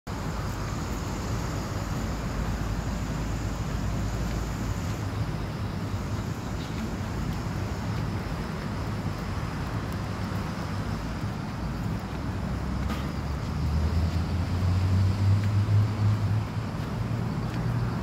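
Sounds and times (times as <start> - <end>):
traffic hum: 0.1 - 18.0.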